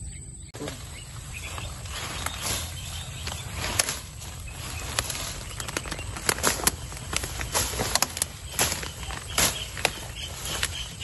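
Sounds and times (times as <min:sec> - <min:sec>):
steady low rumble: 0:00.0 - 0:11.0
leaves and stems rustling: 0:00.6 - 0:11.0
twigs snapping: 0:00.7 - 0:11.0.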